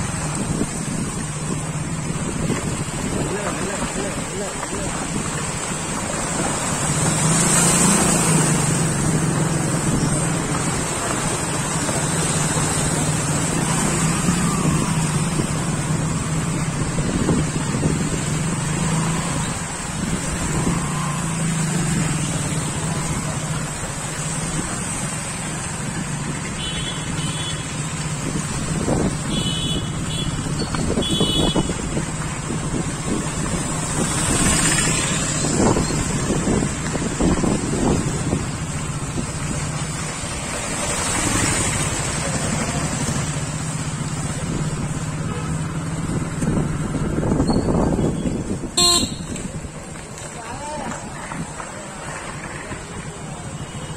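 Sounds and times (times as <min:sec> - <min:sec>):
vehicle engines running: 0:00.0 - 0:53.9
water washing: 0:00.0 - 0:53.9.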